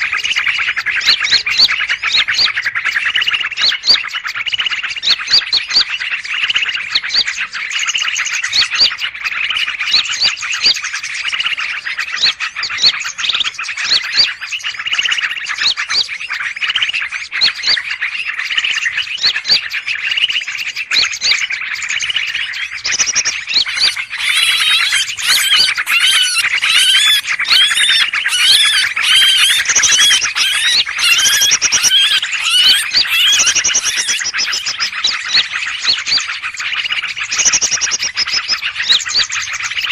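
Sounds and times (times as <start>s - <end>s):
many birds calling: 0.0s - 39.9s.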